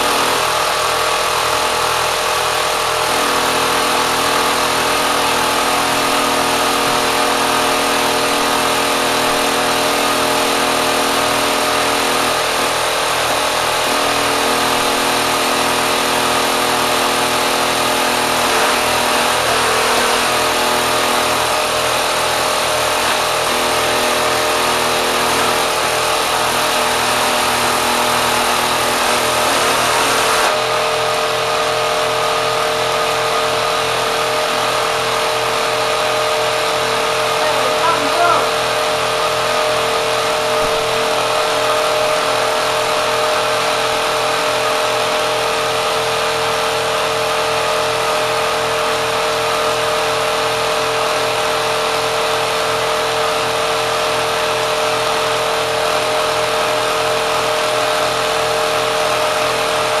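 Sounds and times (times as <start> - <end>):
sewing machine running fast: 0.0 - 60.0.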